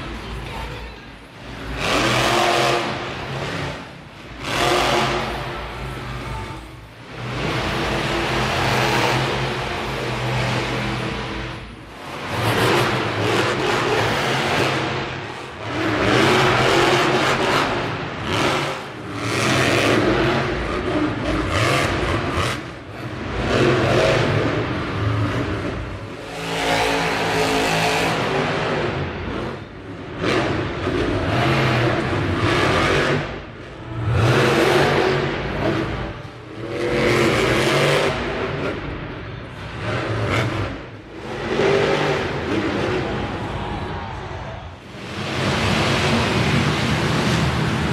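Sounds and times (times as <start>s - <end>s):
monster truck engine revving: 1.3s - 47.9s.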